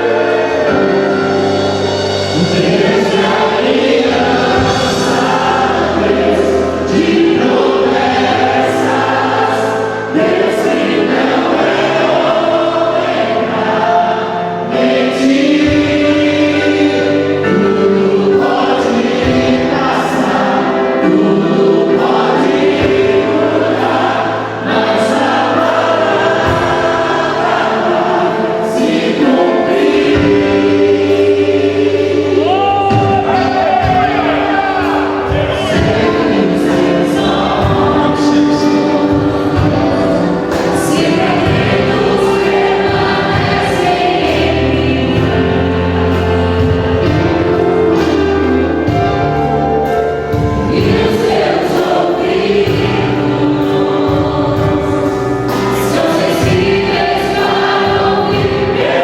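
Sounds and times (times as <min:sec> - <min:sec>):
choir singing sustained notes: 0:00.0 - 0:59.0
low accompaniment: 0:00.0 - 0:59.0.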